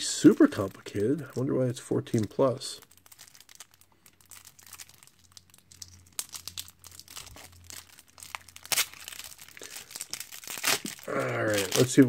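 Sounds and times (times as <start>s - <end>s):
plastic shrink-wrap crinkling and tearing: 0.0s - 1.5s, 2.1s - 12.0s.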